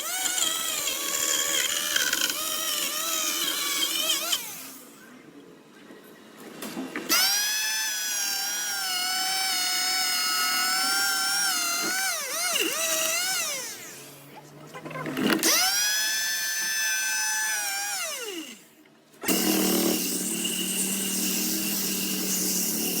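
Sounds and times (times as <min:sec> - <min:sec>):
power tool motor whining: 0:00.0 - 0:05.1, 0:07.1 - 0:14.3, 0:15.0 - 0:23.0.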